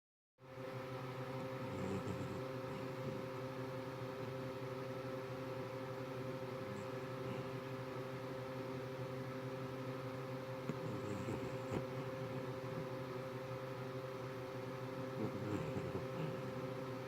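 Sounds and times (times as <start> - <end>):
steady mechanical hum: 0.4 - 17.0.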